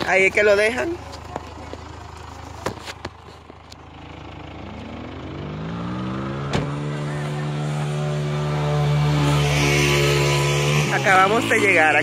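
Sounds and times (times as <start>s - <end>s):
vehicle engine accelerating: 0.1s - 12.0s.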